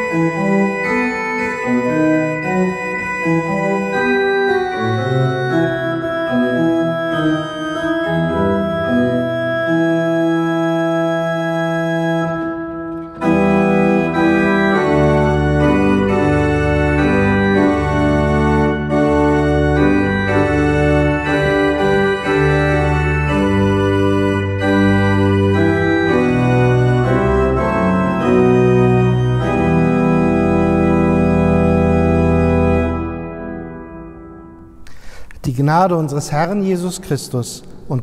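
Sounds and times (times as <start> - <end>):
pipe organ playing hymn: 0.0 - 38.0.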